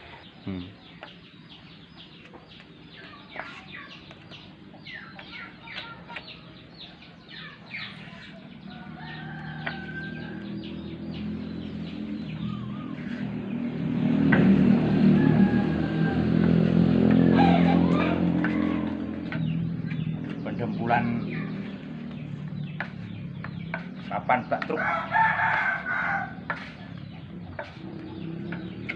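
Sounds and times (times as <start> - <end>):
chickens clucking: 0.0 - 28.9
vehicle engine hum: 0.0 - 28.9.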